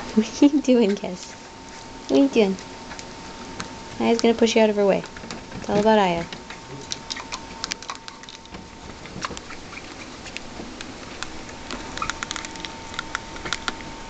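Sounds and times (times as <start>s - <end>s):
rats scrabbling and scratching: 0.0s - 14.0s.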